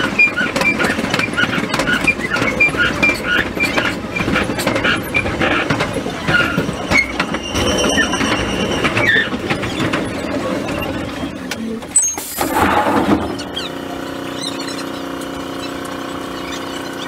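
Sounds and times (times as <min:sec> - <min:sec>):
train rail clicks and wheel noise: 0:00.0 - 0:13.8.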